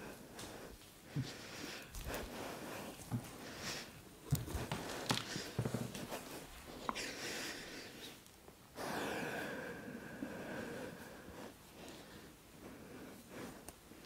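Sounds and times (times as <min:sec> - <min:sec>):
person breathing heavily: 0:00.0 - 0:08.2, 0:08.8 - 0:14.0.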